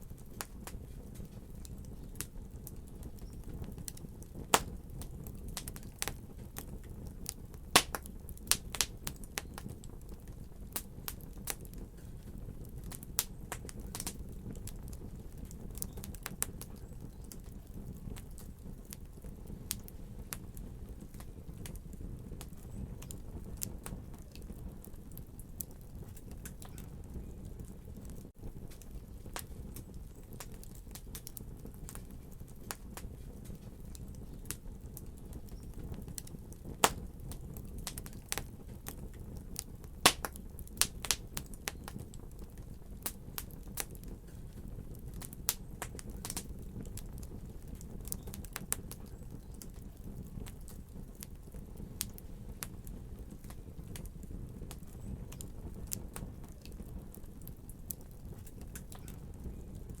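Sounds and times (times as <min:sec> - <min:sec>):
wood fire crackling in a fireplace: 0:00.0 - 1:00.0.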